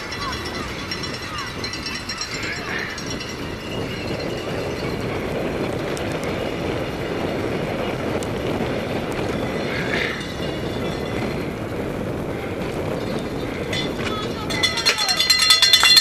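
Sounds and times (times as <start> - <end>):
bike clattering: 0.0 - 16.0.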